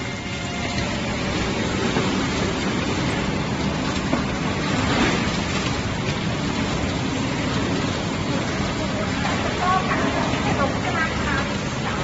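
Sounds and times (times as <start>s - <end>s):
fish filleting machine running: 0.0s - 12.0s
spraying water hiss: 0.0s - 12.0s.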